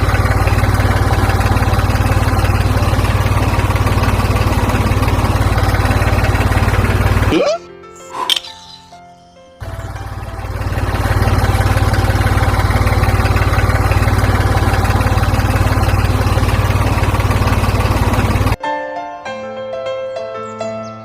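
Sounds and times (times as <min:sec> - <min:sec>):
engine idling: 0:00.0 - 0:09.0, 0:09.6 - 0:18.6.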